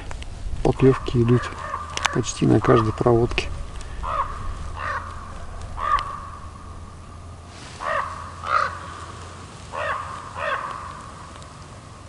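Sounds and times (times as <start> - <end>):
crow cawing: 0.7 - 11.4.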